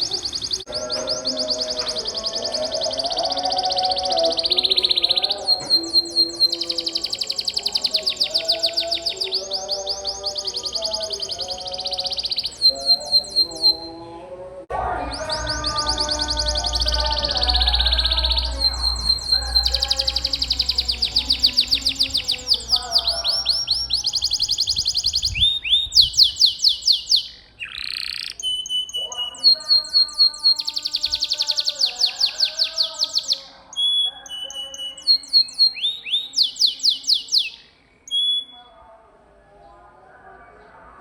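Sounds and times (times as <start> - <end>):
canary singing trills: 0.0 - 39.3.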